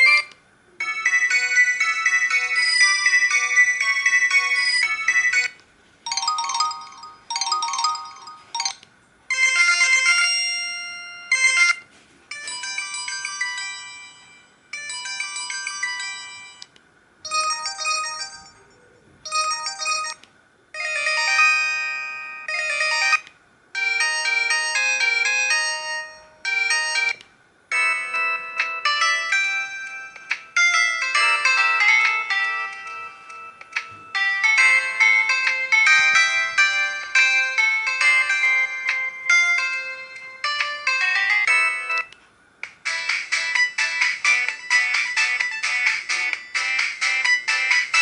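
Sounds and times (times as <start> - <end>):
electronic ringtone melodies: 0.0 - 16.7, 17.3 - 20.2, 20.8 - 42.2, 42.8 - 48.0.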